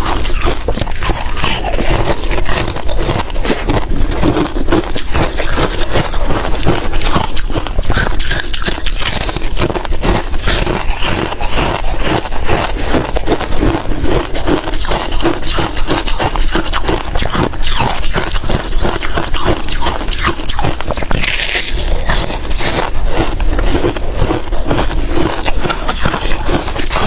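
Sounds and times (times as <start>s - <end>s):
shaved ice scraped and crunched: 0.0s - 27.0s.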